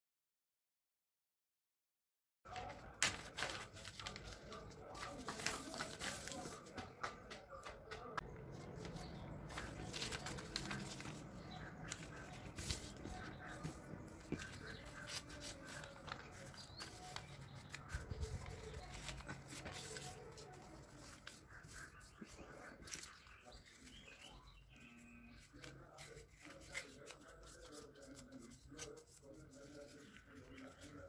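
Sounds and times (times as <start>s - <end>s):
newspaper rustling and crackling: 2.5s - 7.2s, 8.4s - 31.0s
scissors cutting newspaper: 2.5s - 7.2s, 8.5s - 31.0s.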